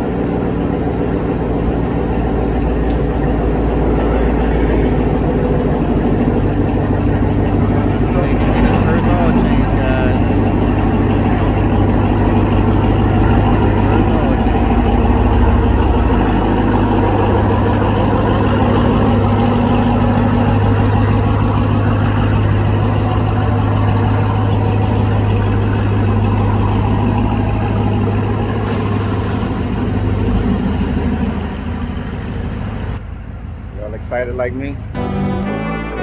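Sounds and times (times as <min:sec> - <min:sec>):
truck engine idling: 0:00.0 - 0:35.6.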